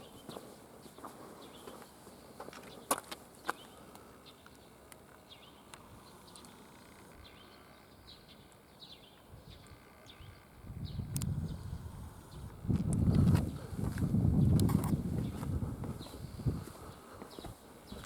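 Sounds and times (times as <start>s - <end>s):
faint rural background noise: 0.0s - 18.0s
small birds chirping: 0.0s - 18.0s.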